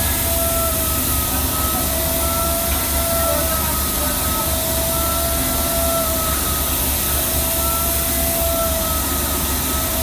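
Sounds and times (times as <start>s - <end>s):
air machine hiss: 0.0s - 10.0s
machine whine: 0.0s - 10.0s.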